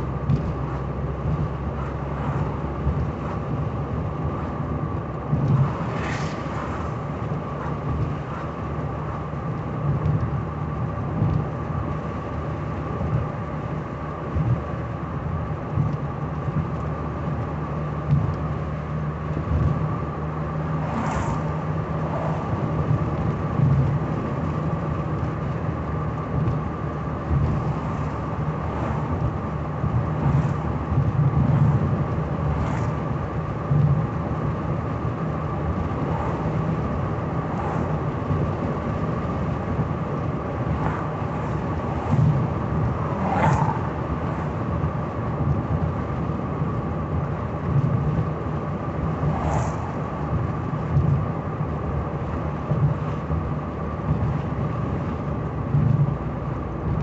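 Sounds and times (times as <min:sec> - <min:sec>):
engine and tyre drone: 0:00.0 - 0:57.0.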